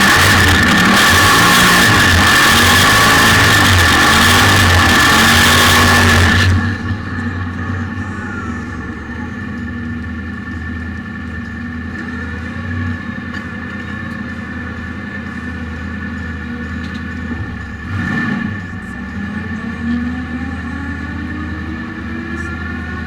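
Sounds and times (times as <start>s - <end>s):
loud car engine running: 0.0s - 23.0s.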